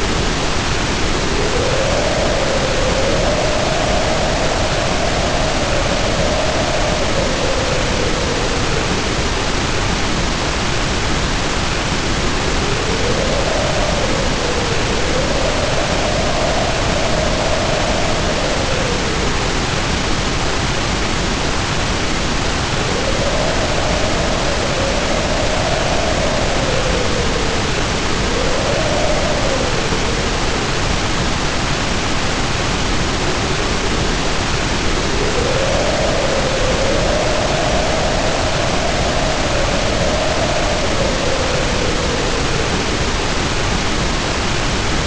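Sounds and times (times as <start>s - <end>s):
heavy rain pouring: 0.0s - 45.0s
wind howling: 0.0s - 45.0s.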